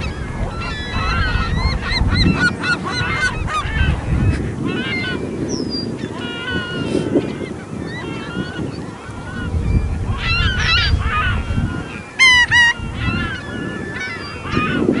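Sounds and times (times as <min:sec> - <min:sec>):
birds calling in chorus: 0:00.0 - 0:15.0.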